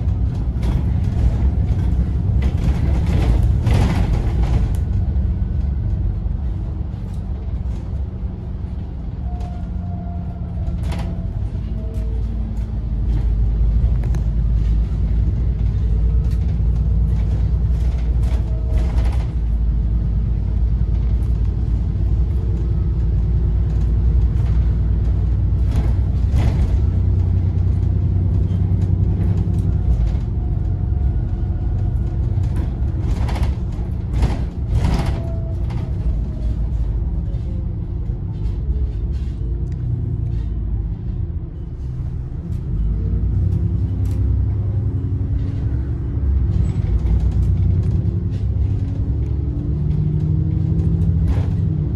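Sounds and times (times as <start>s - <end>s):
bus body rattles and knocks: 0.0s - 51.9s
bus engine and road rumble: 0.0s - 51.9s.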